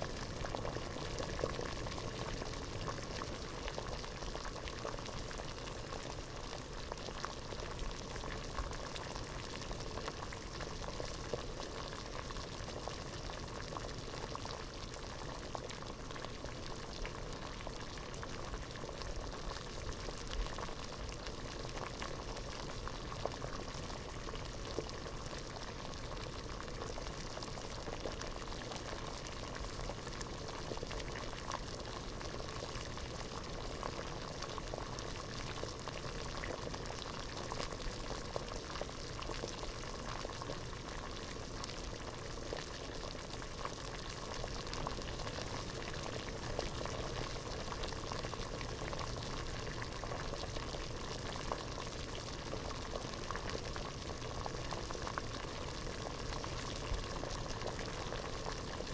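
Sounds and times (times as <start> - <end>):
water boiling in a pot: 0.0 - 58.9.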